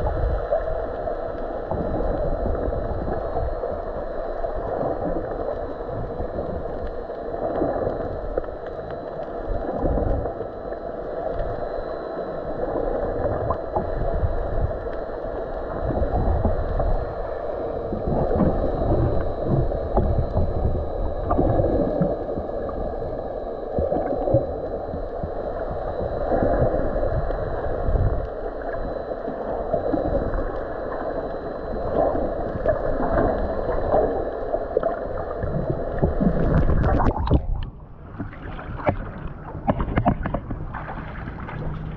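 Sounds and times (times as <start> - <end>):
underwater water wash: 0.0 - 41.9.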